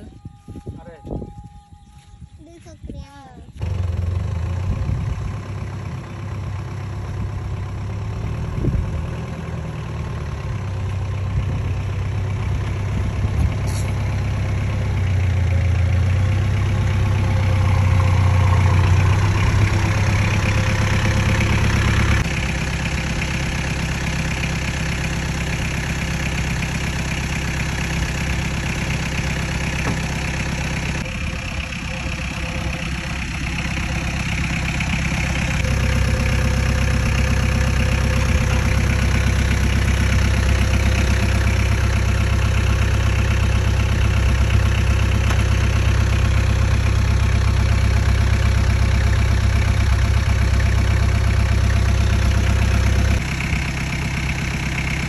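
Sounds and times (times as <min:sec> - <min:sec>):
jeep engine idling: 0:03.4 - 0:55.0.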